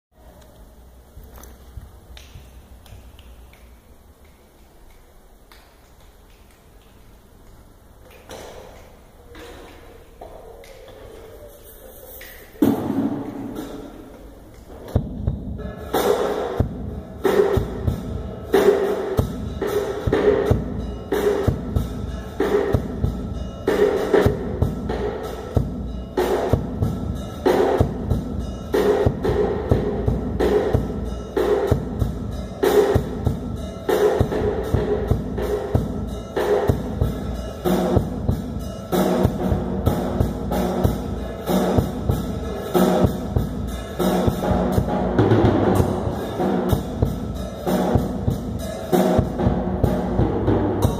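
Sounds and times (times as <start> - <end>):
drum kit playing: 9.4 - 50.9.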